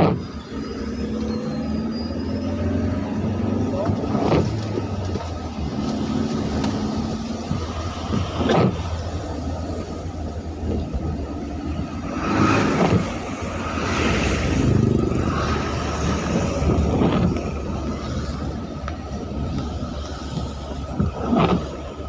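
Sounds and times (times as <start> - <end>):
traffic on a wet road: 0.0 - 22.0.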